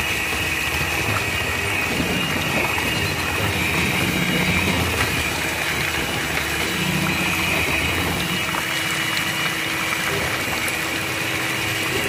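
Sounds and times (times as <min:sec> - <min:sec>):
electric hand mixer whirring: 0:00.0 - 0:12.0.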